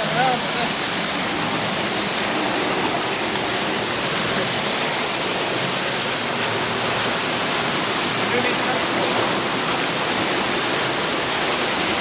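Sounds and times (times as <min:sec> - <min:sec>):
water rushing in cave: 0:00.0 - 0:12.0.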